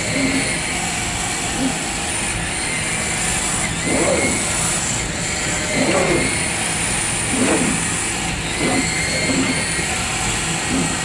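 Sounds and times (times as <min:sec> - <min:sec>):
cutting machine humming and whining: 0:00.0 - 0:11.0.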